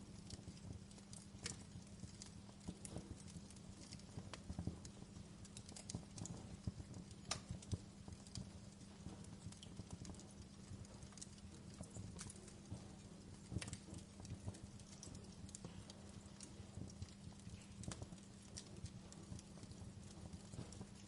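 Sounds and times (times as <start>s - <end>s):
low steady rumble: 0.0s - 21.0s
wood fire crackling with pops: 0.0s - 21.0s.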